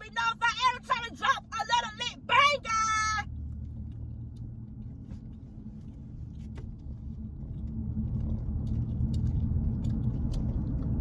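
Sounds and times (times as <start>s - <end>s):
car rumbling on the move: 0.0s - 11.0s.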